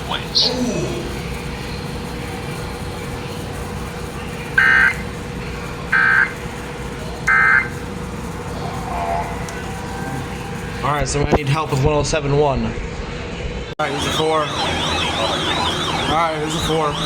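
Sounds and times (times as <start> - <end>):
buzzy digital data tone bursts: 0.0 - 11.8, 13.8 - 17.0
radio hiss: 0.0 - 11.9, 13.8 - 17.0.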